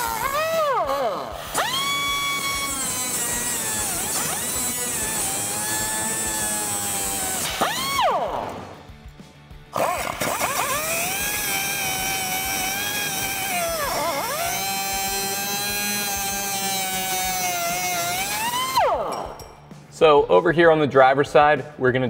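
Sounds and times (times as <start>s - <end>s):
cutoff wheel whining on steel: 0.0s - 9.1s, 9.7s - 19.8s.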